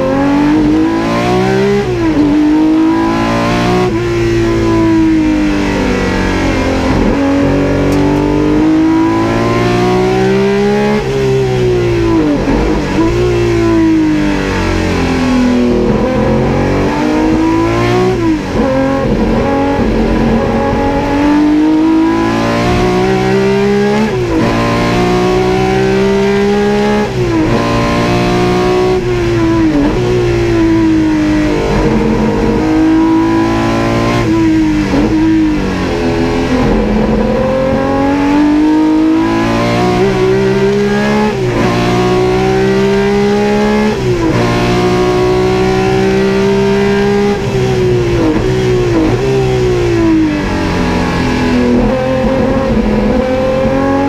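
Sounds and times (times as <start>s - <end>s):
racing engine accelerating hard: 0.0s - 54.0s.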